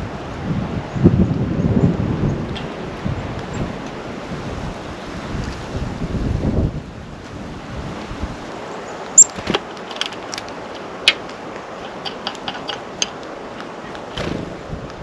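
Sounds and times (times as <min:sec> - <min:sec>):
wind hiss on microphone: 0:00.0 - 0:12.1, 0:12.9 - 0:15.0.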